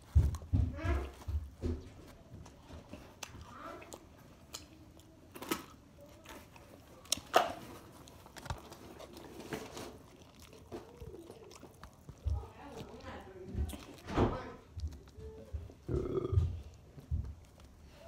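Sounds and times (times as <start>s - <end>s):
chewing and crunching salad: 0.0s - 18.0s.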